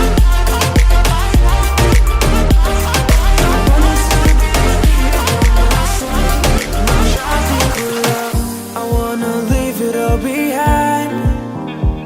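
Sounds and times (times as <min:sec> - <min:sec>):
upbeat tropical pop dance music: 0:00.0 - 0:12.0.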